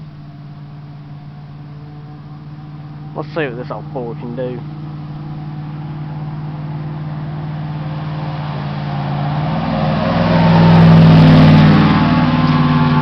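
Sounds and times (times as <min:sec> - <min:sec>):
truck engine driving past: 0:00.0 - 0:13.0.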